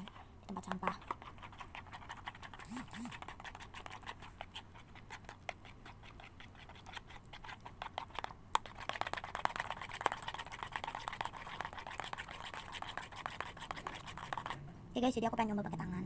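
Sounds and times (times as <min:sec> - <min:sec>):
spoon stirring slime in plastic bowl: 0:00.0 - 0:14.6.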